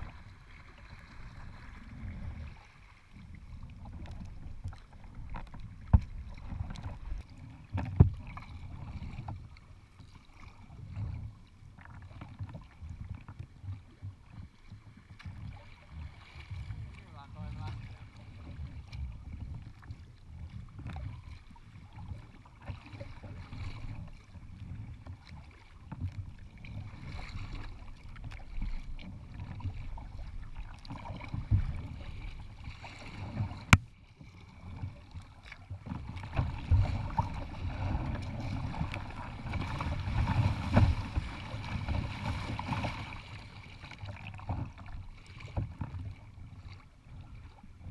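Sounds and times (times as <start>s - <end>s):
choppy water splashing: 0.0s - 47.9s
paddle strokes: 0.0s - 47.9s.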